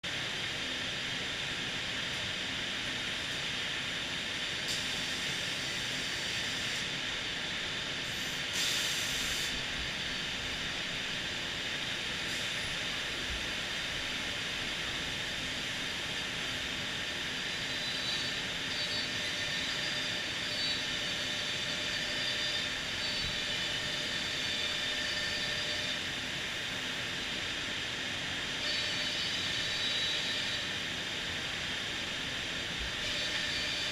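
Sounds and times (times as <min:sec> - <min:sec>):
machine running with steady hiss: 0:00.0 - 0:33.9.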